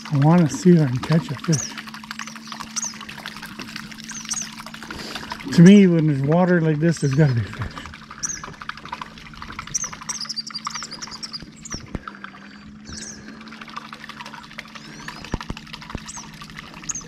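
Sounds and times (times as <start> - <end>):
songbirds chirping and trilling: 0.0 - 17.0
steady low hum: 0.0 - 17.0.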